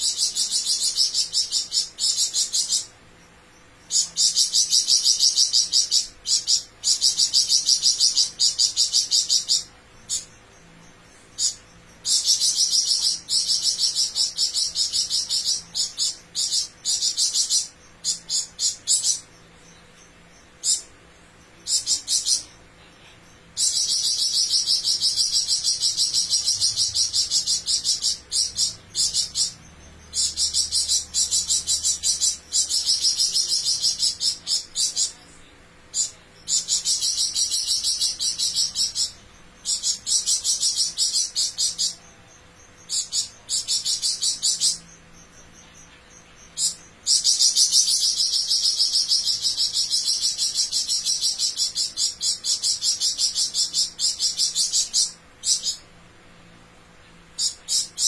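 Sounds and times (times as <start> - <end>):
songbird trilling: 0.0 - 55.9, 57.4 - 58.0.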